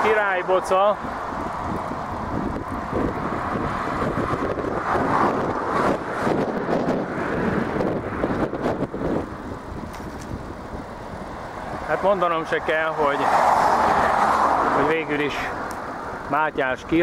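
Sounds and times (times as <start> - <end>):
cars passing: 0.0 - 17.0
wind rushing over microphone: 0.0 - 17.0.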